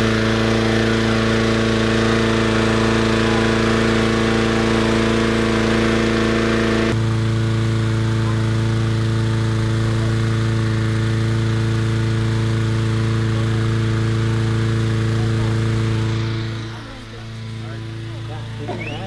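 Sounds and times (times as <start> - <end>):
petrol engine fan running: 0.0 - 19.0.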